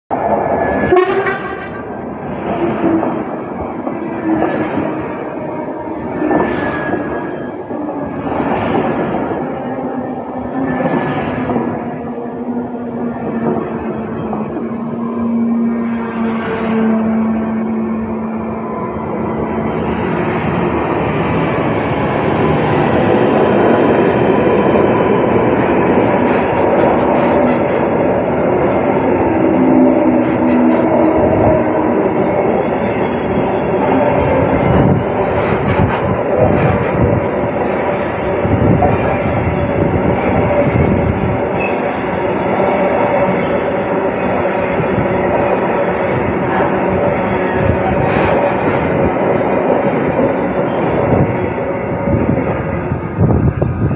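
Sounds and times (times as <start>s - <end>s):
diesel locomotives passing: 0.1s - 53.9s.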